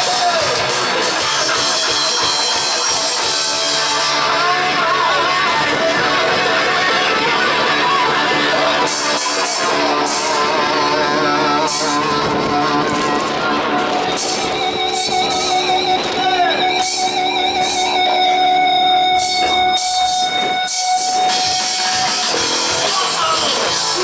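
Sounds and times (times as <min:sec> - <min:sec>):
bending guitar notes: 0:00.0 - 0:24.0
rock band playing live: 0:00.0 - 0:24.0.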